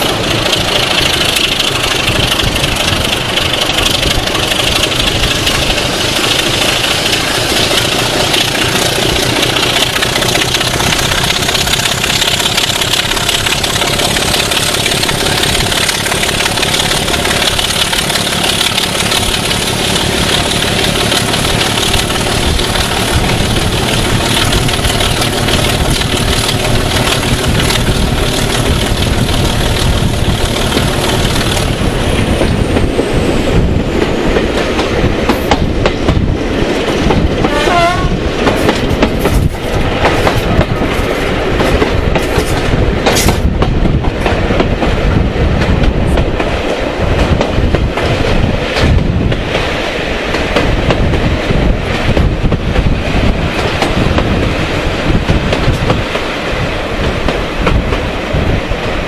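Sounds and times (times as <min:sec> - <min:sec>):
wheels clicking over rail joints: 0:00.0 - 0:37.6, 0:38.4 - 0:59.0
diesel locomotive engine running: 0:00.0 - 0:59.0.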